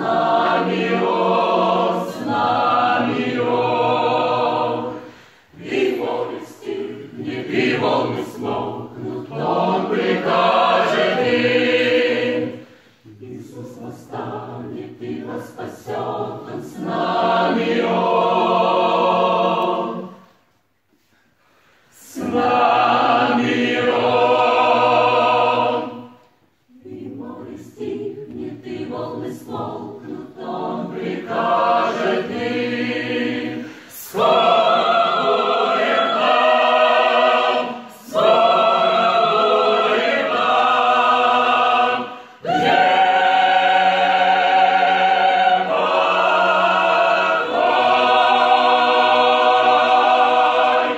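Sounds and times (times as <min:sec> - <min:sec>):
choir singing a hymn: 0:00.0 - 0:20.5, 0:21.9 - 0:50.9.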